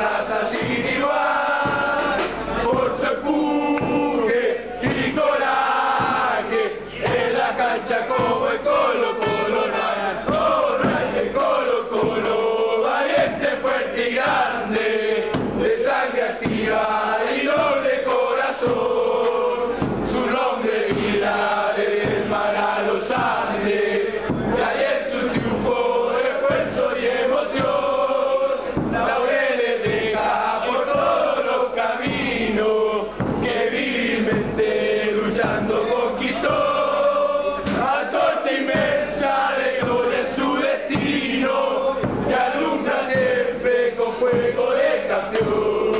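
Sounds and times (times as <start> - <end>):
crowd of men chanting: 0.0 - 45.9
drum beating: 0.0 - 45.9.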